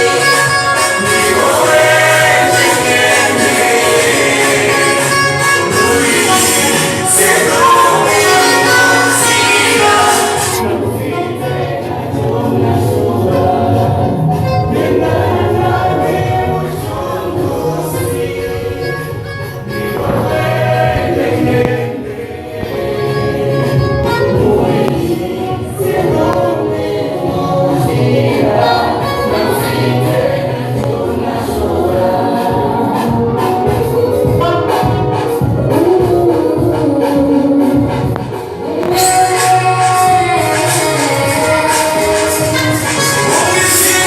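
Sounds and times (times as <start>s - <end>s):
choir singing gospel: 0.0s - 44.0s.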